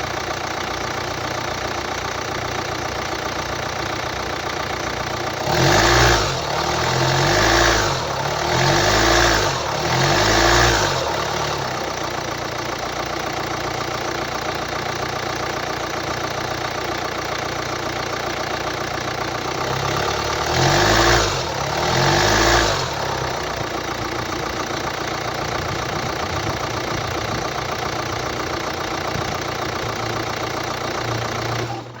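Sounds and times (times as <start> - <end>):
diesel engine idling with rev blips: 0.0 - 32.0.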